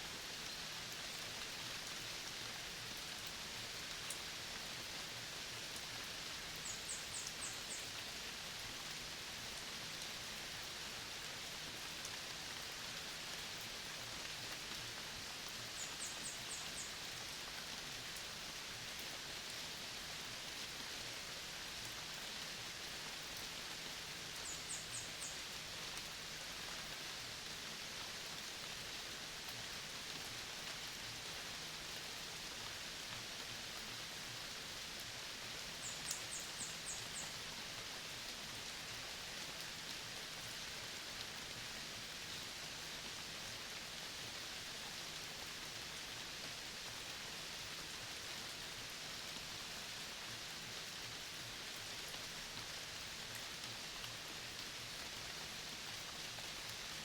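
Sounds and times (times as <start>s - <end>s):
forest ambience hiss: 0.0s - 57.0s.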